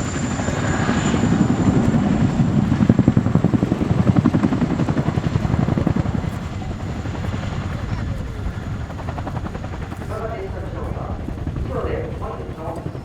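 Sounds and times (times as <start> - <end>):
helicopter rotor chop: 0.0 - 13.0.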